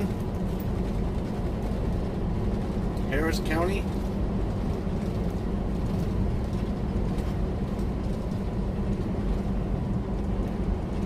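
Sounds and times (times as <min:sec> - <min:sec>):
tyre road noise: 0:00.0 - 0:11.0.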